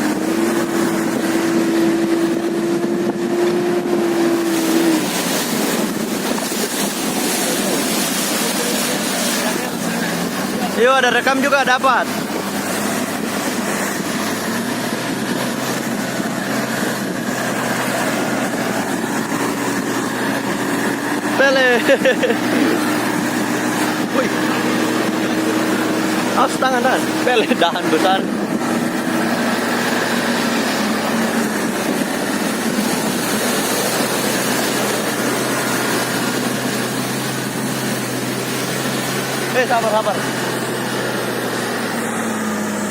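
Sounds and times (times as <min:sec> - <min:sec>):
car engine running steadily: 0:00.0 - 0:42.9.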